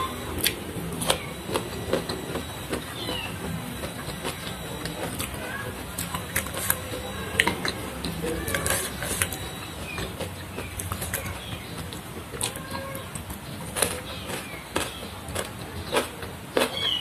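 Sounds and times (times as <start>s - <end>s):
chewing and crunching vegetables: 0.0s - 17.0s
lettuce leaves rustling: 0.0s - 17.0s.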